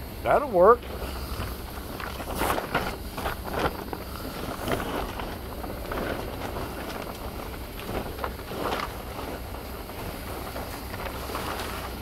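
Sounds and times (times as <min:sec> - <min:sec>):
plastic cover crinkling and rustling: 0:01.0 - 0:12.0.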